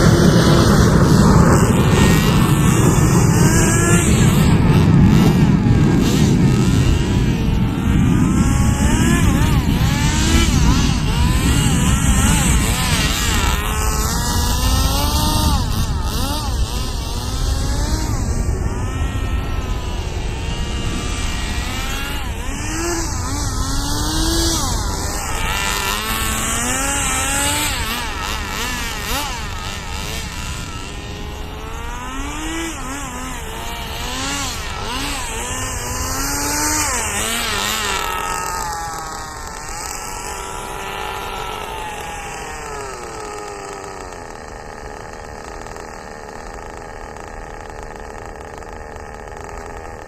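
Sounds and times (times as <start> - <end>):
small model car engine revving: 0.0 - 50.0.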